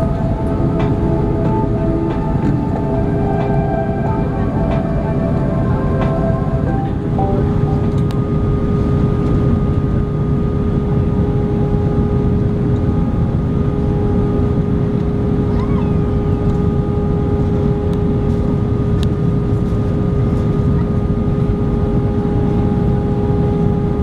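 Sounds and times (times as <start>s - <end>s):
aircraft cabin engine and airflow rush: 0.0s - 24.0s
constant droning hum: 0.0s - 24.0s.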